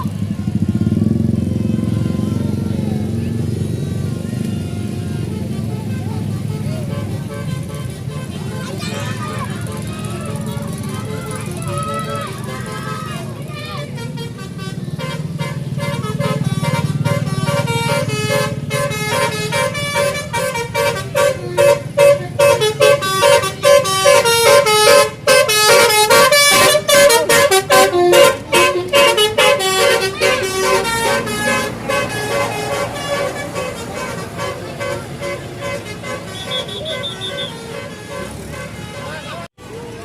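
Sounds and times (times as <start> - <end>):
bus melodic horn tune: 0.0 - 39.5
low engine rumble: 0.0 - 40.0.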